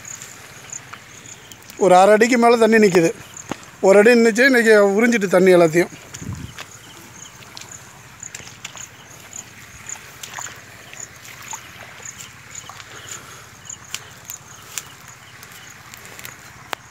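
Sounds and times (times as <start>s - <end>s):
footsteps splashing in water: 0.0s - 3.9s, 5.2s - 16.9s.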